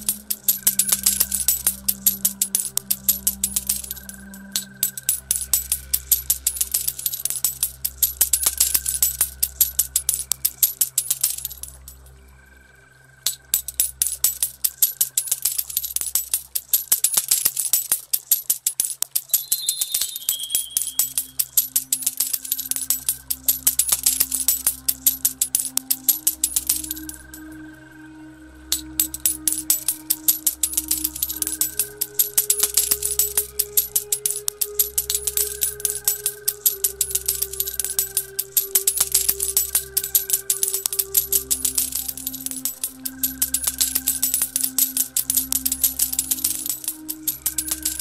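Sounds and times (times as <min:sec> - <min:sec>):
coins clinking and jingling: 0:00.0 - 0:12.1, 0:13.3 - 0:27.6, 0:28.7 - 0:48.0
soft music with low notes: 0:00.0 - 0:48.0.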